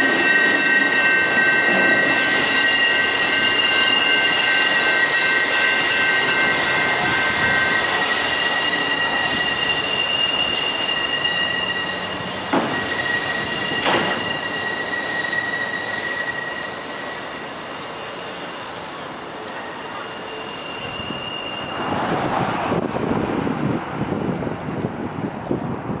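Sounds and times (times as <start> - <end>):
high-pitched wheel squeal: 0.0 - 22.8
train wheels rolling: 0.0 - 25.9.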